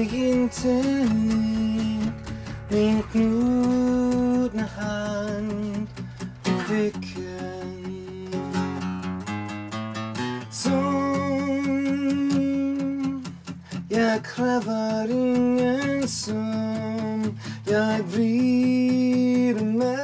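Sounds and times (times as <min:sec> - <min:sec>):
person singing: 0:00.0 - 0:09.1, 0:10.4 - 0:20.0
acoustic guitar strummed: 0:00.0 - 0:20.0.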